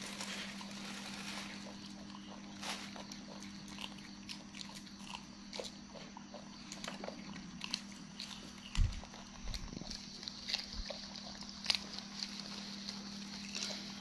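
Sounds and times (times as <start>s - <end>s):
monkey crunching green beans: 0.0s - 14.0s
steady low hum: 0.0s - 14.0s.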